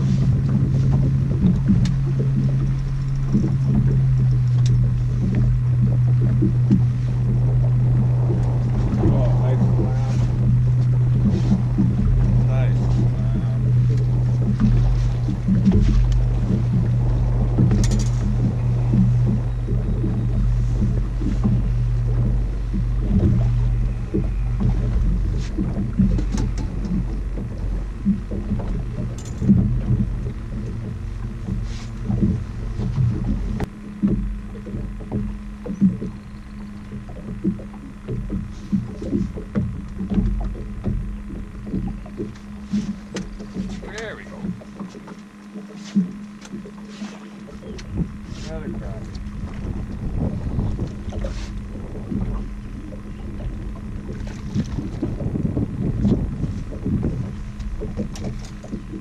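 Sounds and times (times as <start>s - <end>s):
wind buffeting microphone: 0.0s - 44.9s, 46.0s - 59.0s
boat motor running: 0.0s - 59.0s
low thumps: 0.0s - 59.0s.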